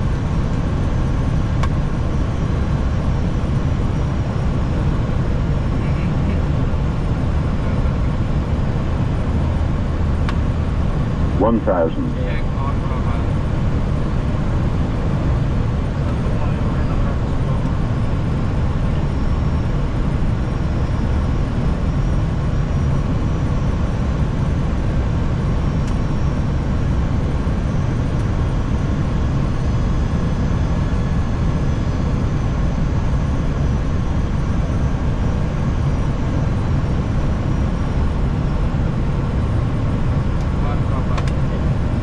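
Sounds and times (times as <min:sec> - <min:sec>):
cockpit air and engine noise: 0:00.0 - 0:42.0.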